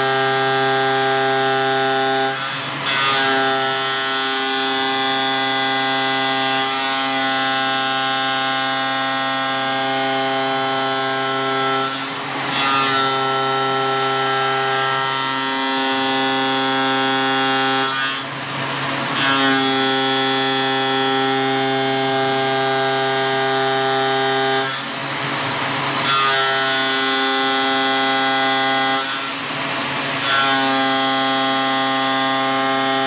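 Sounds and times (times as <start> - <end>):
mill cutting metal whine: 0.0 - 33.0.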